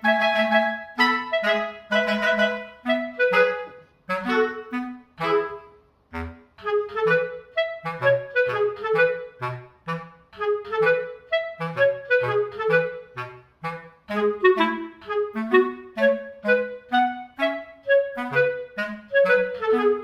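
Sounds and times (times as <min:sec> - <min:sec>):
light instrumental music: 0:00.0 - 0:20.0.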